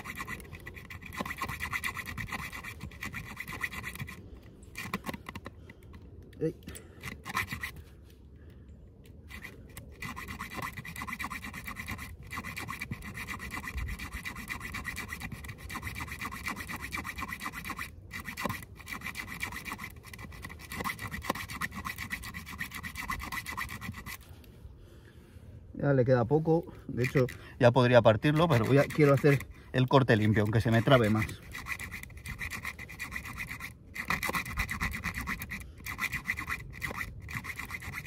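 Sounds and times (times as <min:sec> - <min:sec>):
saw blade rasping through nail: 0:00.0 - 0:05.6, 0:07.0 - 0:07.8, 0:09.3 - 0:24.2, 0:26.9 - 0:38.0.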